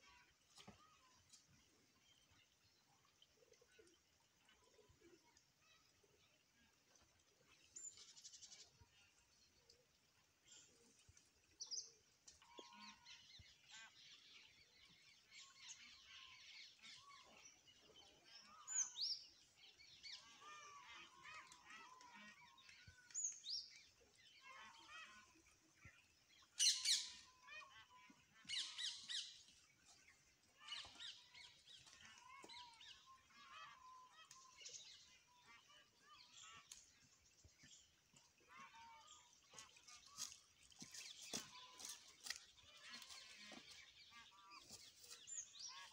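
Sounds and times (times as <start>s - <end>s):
wild birds chirping and calling: 0.0s - 45.9s.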